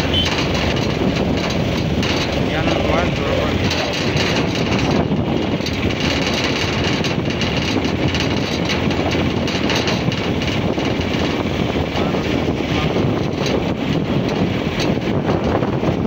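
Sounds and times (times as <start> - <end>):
vehicle road noise: 0.0 - 16.0.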